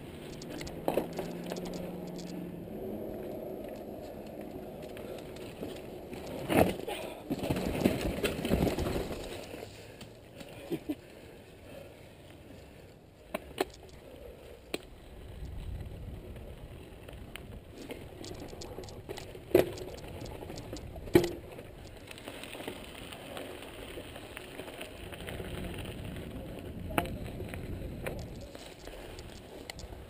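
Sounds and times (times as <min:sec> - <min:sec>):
bike tyres on rocky trail: 0:00.0 - 0:30.0.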